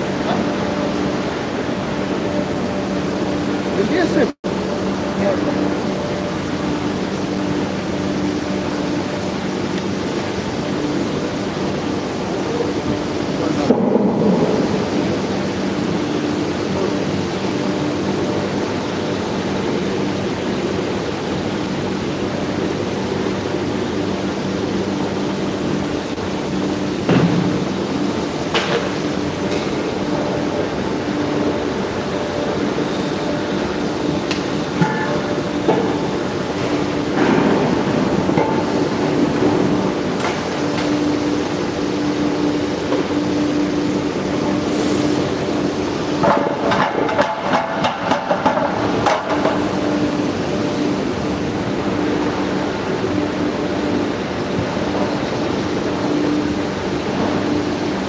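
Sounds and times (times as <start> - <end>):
workshop machinery humming: 0.0 - 58.0.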